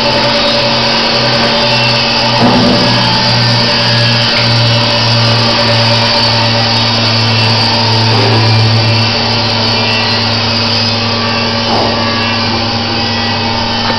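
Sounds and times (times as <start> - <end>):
sawmill machinery humming: 0.0 - 13.9.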